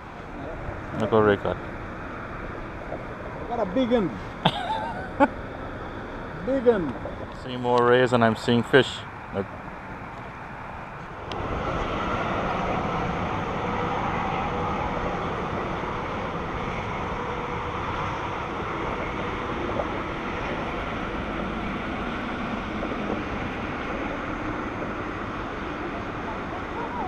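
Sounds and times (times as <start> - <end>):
steady rumbling noise: 0.0 - 27.0.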